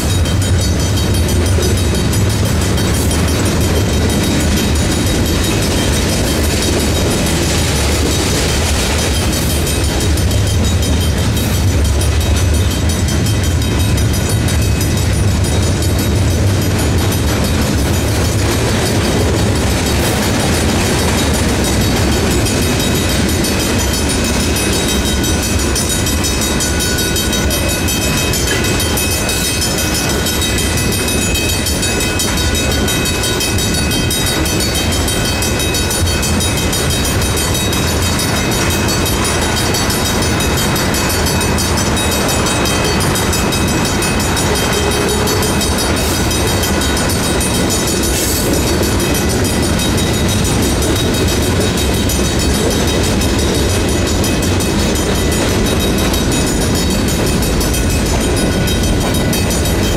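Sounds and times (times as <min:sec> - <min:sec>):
crossing bell ringing: 0:00.0 - 0:59.9
freight train rumbling: 0:00.0 - 0:59.9
wheels clacking over rail joints: 0:00.0 - 0:59.9.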